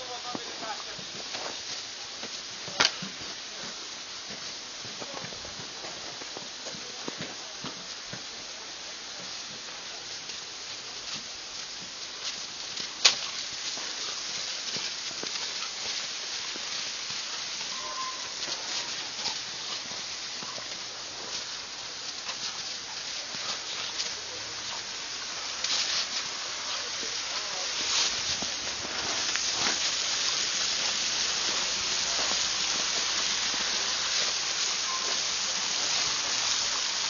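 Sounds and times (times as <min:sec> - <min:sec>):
snow crunching under paws: 0:00.0 - 0:37.0
steady hiss: 0:00.0 - 0:37.0.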